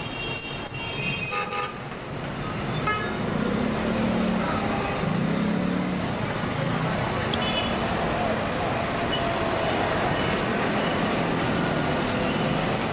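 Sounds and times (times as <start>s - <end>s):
city street traffic: 0.0s - 12.9s.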